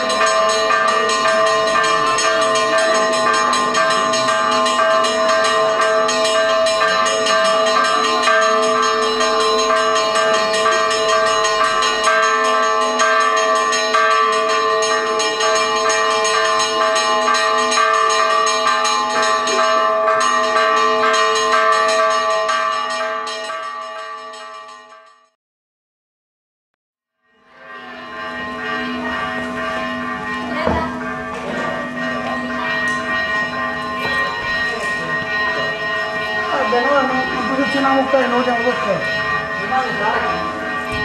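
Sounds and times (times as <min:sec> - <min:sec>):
church bells ringing: 0:00.0 - 0:25.4, 0:27.4 - 0:41.0.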